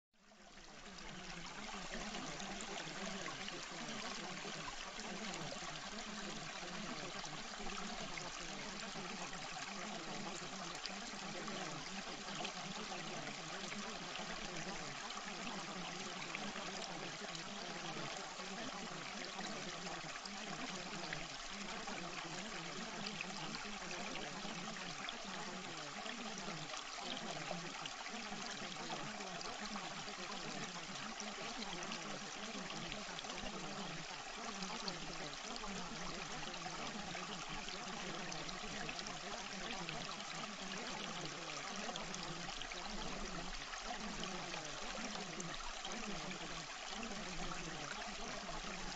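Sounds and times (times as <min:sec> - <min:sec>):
running water: 0:00.2 - 0:48.9.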